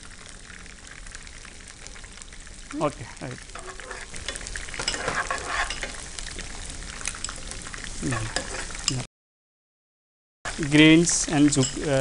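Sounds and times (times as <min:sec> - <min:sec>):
vegetables sizzling in oil: 0:00.0 - 0:09.1, 0:10.5 - 0:12.0.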